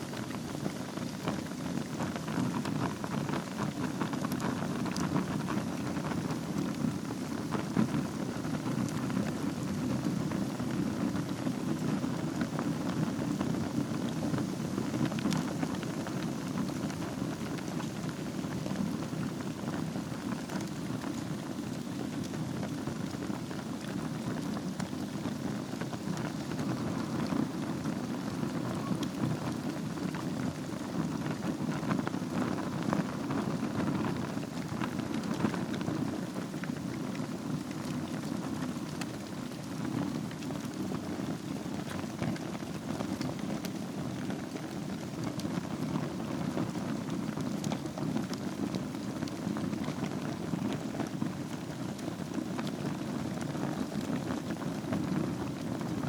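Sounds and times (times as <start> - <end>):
low rush of flame: 0.0 - 56.0
wood fire crackling and popping: 0.0 - 56.0.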